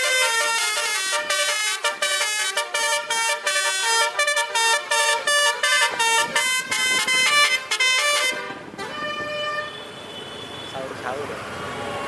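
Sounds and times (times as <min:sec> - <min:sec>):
truck air horn playing a tune: 0:00.0 - 0:10.7.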